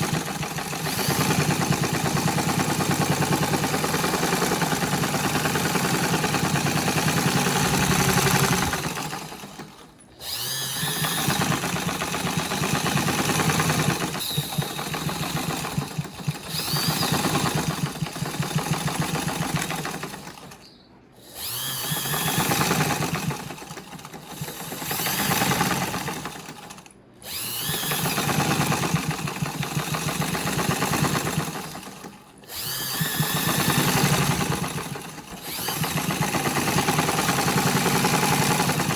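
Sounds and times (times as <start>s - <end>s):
electric sewing machine stitching: 0.0s - 20.6s, 21.2s - 38.9s.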